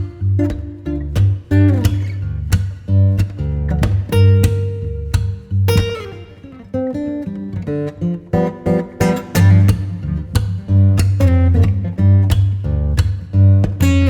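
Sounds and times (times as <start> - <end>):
acoustic guitar music with beat: 0.0 - 14.0.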